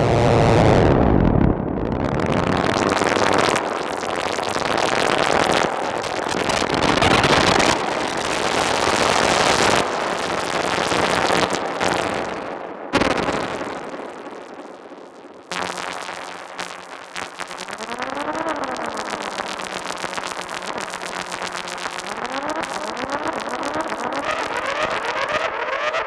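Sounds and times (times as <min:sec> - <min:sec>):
synthesizer noise drone with echo: 0:00.0 - 0:26.0.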